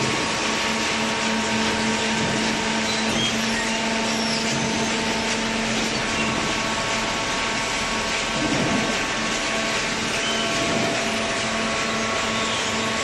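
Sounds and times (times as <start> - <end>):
hydraulic baler running: 0.0 - 13.0.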